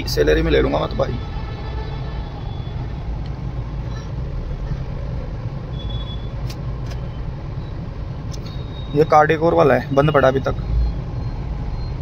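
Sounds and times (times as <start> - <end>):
car engine drone: 0.0 - 12.0
road noise: 0.0 - 12.0.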